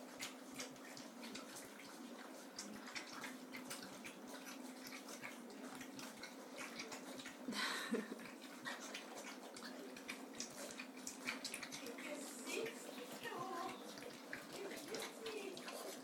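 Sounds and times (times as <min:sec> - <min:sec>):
puppies lapping and chewing: 0:00.0 - 0:16.0
puppies scuffling: 0:00.0 - 0:16.0.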